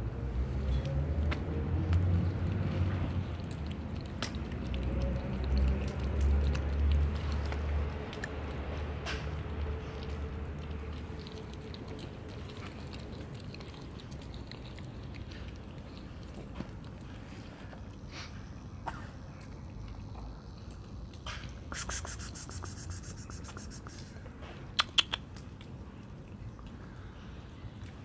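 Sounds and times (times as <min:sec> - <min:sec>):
cats chewing wet food: 0:00.4 - 0:28.0.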